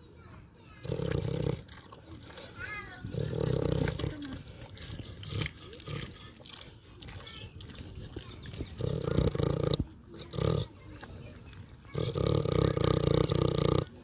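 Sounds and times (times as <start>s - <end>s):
pig grunting: 0.8s - 6.6s, 7.8s - 11.1s, 11.9s - 14.0s.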